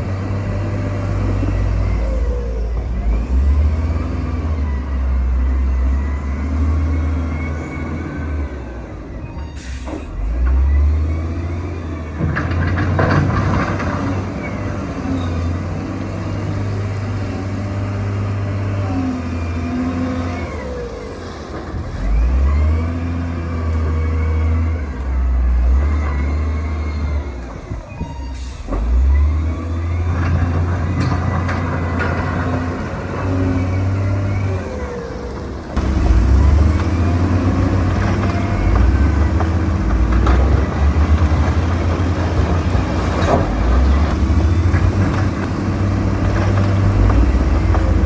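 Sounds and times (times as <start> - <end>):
diesel engine rumble: 0.0 - 48.0.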